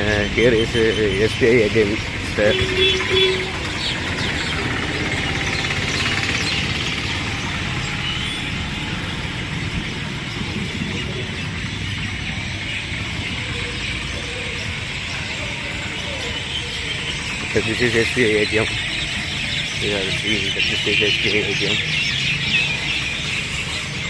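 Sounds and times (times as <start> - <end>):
traffic rumble and hiss: 0.0 - 24.0.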